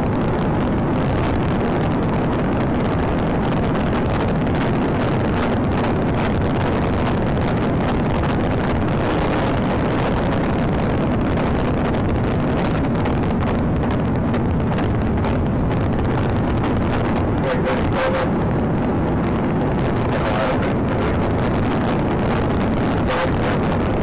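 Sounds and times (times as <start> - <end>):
road and wind noise inside car: 0.0 - 24.0.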